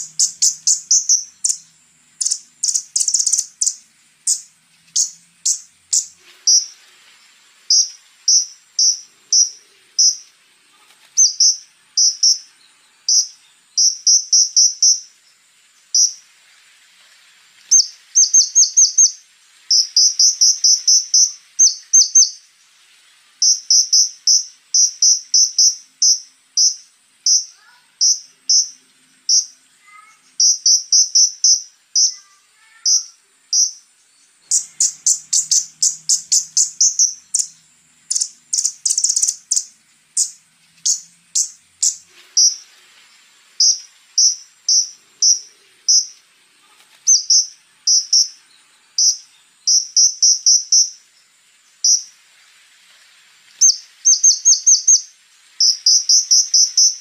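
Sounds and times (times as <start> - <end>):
faint high-pitched buzz: 0.0 - 57.0.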